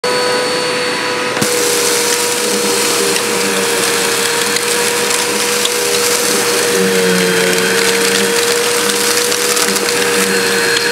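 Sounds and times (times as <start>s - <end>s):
vacuum cleaner whining: 0.0s - 10.9s
vacuum sucking up sand: 0.1s - 10.9s.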